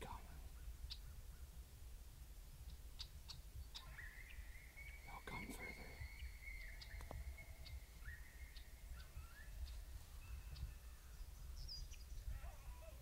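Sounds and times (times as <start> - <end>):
small birds chirping: 0.0 - 1.7, 2.6 - 13.0
low wind rumble: 0.0 - 13.0.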